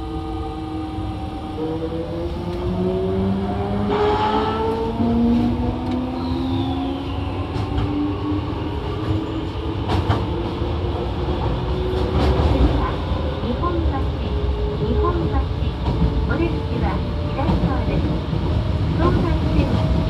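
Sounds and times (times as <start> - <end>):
wheels rumbling on rail: 0.8 - 20.0.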